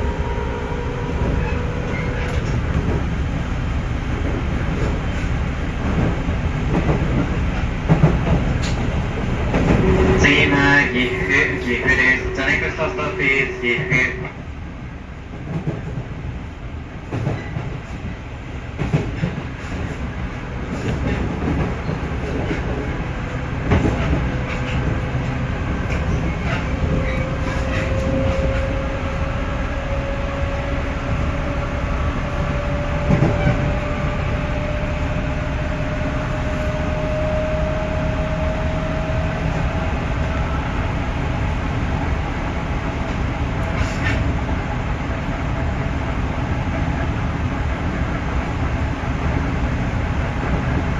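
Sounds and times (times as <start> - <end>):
electric train rumble: 0.0 - 50.9.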